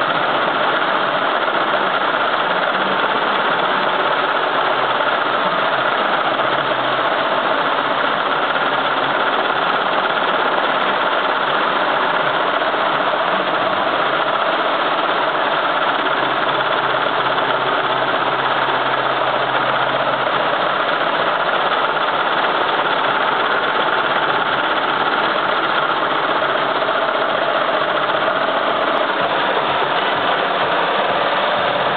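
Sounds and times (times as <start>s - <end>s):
embroidery machine stitching: 0.0s - 31.9s.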